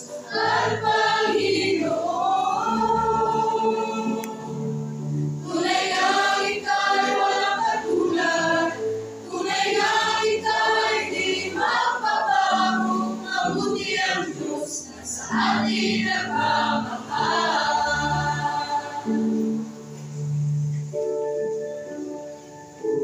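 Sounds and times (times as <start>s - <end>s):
mixed choir singing: 0.0s - 19.8s.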